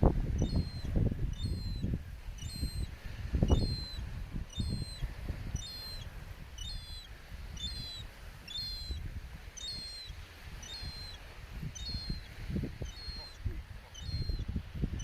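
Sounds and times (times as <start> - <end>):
small bird calling: 0.3 - 15.0.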